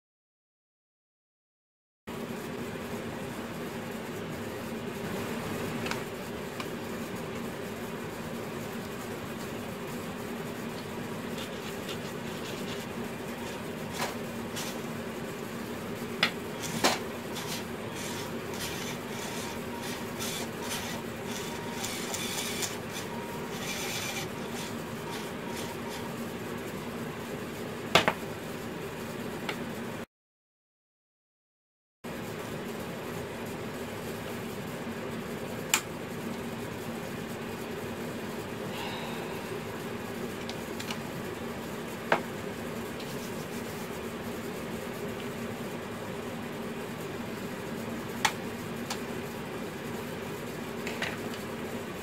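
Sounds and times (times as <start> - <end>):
steady low hum: 2.1 - 30.1, 32.1 - 52.0.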